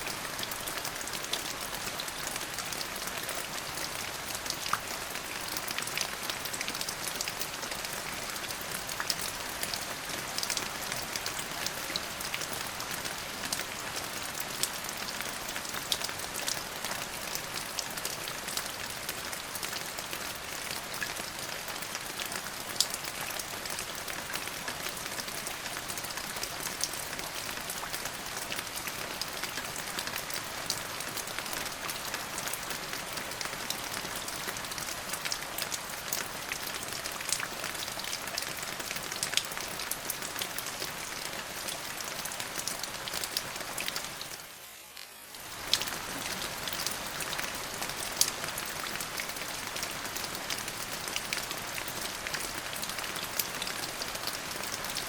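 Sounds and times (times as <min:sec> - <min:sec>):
rain drops on hard surface: 0:00.0 - 0:55.0.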